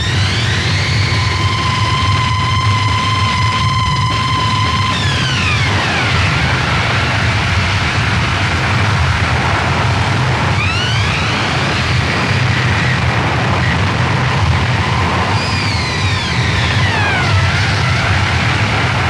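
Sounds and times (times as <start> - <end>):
gliding whining tones: 0.0 - 7.8, 10.5 - 13.0, 13.6 - 19.0
distorted static noise: 0.0 - 19.0.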